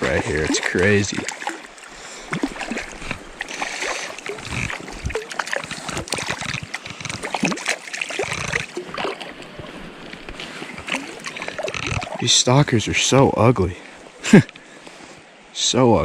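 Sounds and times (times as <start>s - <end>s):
creek water running: 0.0s - 16.0s.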